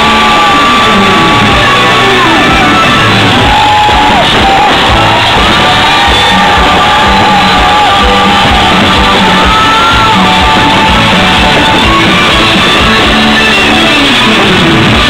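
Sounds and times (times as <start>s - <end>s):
rock music with vocals: 0.0s - 15.0s.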